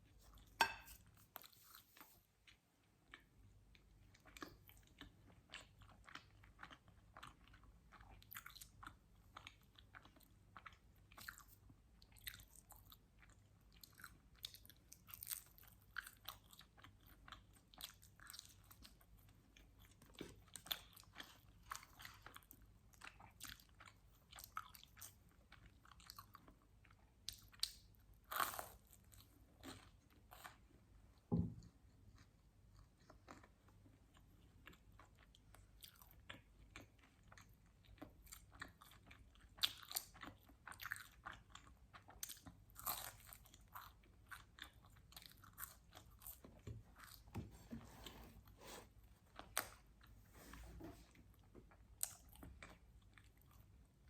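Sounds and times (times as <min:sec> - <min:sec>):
chewing pizza crunches: 0:00.1 - 0:30.8, 0:31.8 - 0:47.3.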